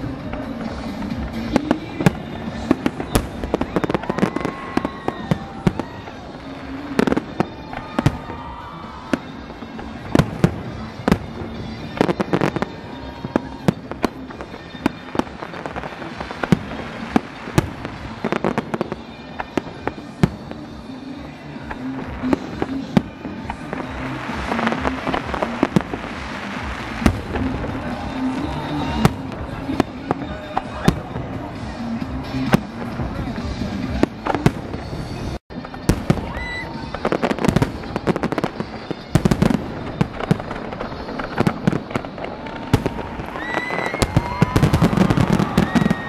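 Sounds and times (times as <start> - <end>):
fireworks crackling: 0.0 - 46.0.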